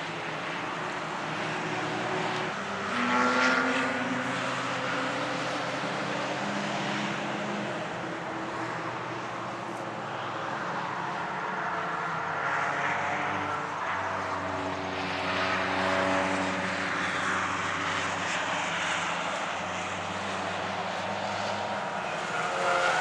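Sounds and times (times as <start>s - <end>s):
distant race car engines droning: 0.0s - 23.0s.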